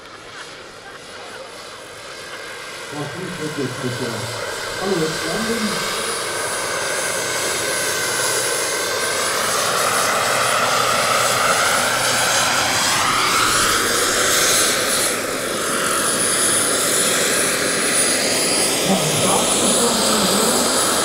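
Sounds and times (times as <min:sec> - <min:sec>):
helicopter rotor noise: 0:00.0 - 0:21.0
model turbine whine: 0:00.0 - 0:21.0.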